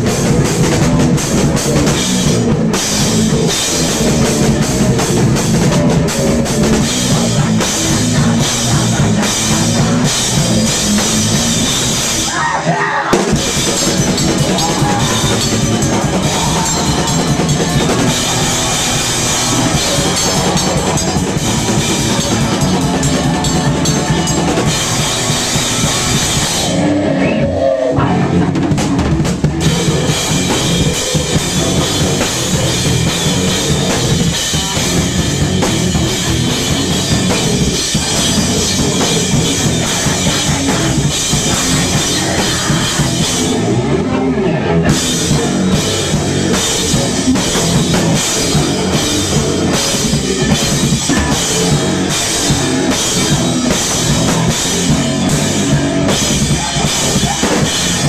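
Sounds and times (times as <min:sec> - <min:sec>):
drum kit with crashing cymbals: 0:00.0 - 0:27.1, 0:28.5 - 0:44.0, 0:44.9 - 0:58.0
heavy metal band playing live: 0:00.0 - 0:58.0.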